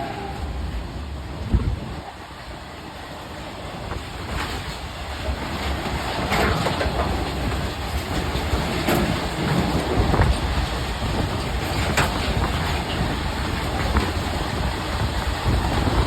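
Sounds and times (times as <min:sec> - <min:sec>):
train rumbling past: 0:00.0 - 0:16.0
wheels clacking over rail joints: 0:00.0 - 0:16.0.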